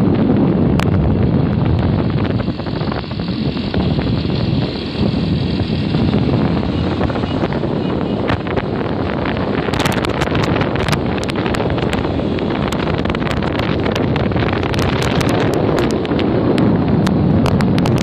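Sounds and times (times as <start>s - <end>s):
wind buffeting microphone: 0.0s - 18.0s
sharp clicks and rattles: 0.2s - 18.0s.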